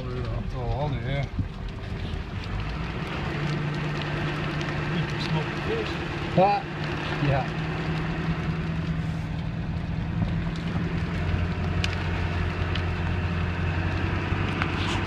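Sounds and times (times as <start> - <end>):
tires on gravel road: 0.0 - 15.0
vehicle engine humming: 0.0 - 15.0.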